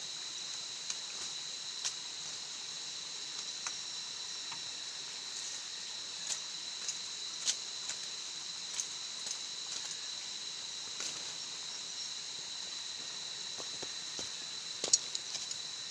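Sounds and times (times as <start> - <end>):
insect chorus drone: 0.0 - 15.9.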